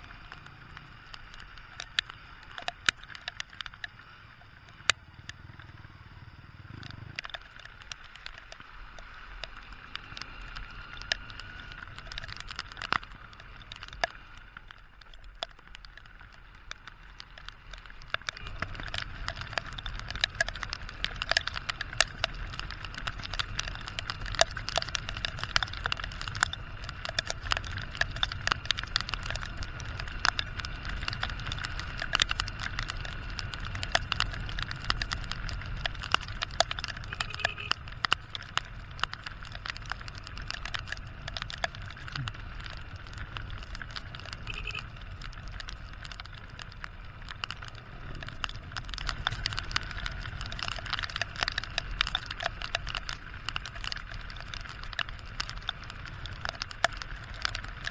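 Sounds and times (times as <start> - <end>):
motorcycle rumble: 0.0 - 57.9
raindrops tapping on camera: 0.0 - 57.9
wind: 0.0 - 57.9.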